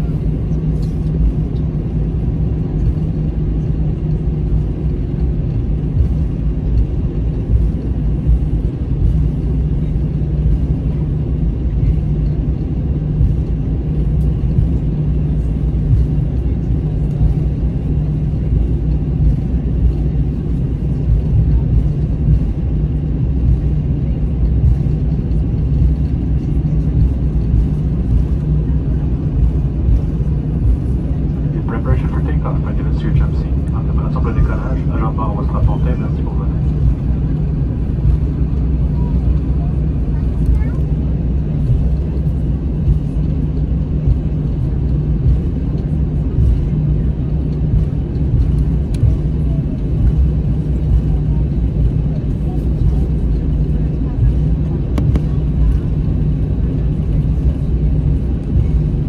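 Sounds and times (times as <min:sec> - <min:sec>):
jet engines idling in cabin: 0:00.0 - 0:59.0.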